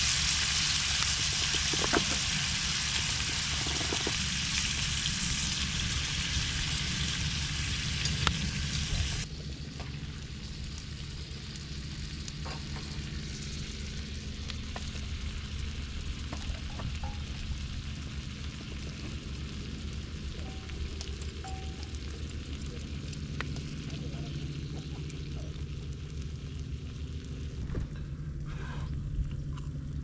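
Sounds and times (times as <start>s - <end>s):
food sizzling: 0.0s - 27.6s
low hum: 0.0s - 30.0s.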